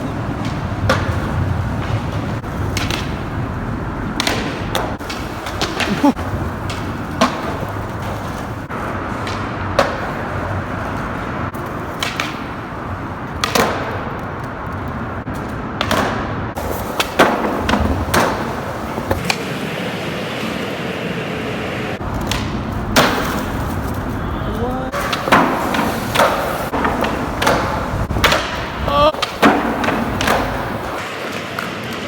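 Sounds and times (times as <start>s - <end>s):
skateboard clacking on ground: 0.0s - 32.0s
skateboard wheels rolling on concrete: 0.0s - 32.0s.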